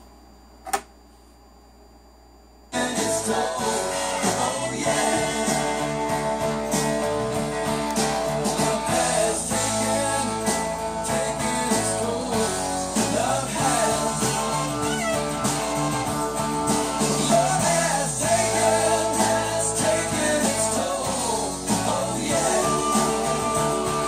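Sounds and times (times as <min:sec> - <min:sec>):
song with singing on record player: 0:02.7 - 0:24.0.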